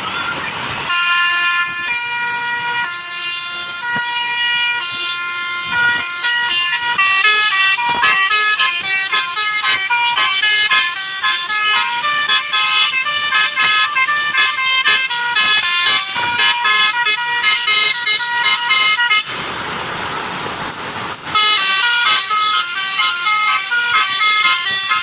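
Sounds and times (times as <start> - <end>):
multi-tone bus horn melody: 0.0 - 25.0
steady rushing noise: 0.0 - 25.0.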